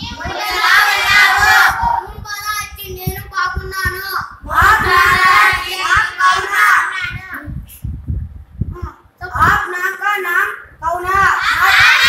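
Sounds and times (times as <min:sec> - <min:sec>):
boy reciting aloud: 0:00.0 - 0:07.9, 0:08.7 - 0:12.0.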